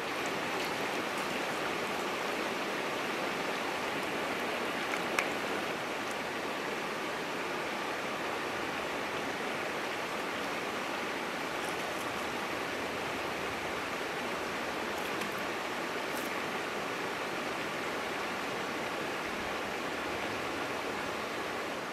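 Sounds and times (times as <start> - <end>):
creek water rushing: 0.0 - 21.9.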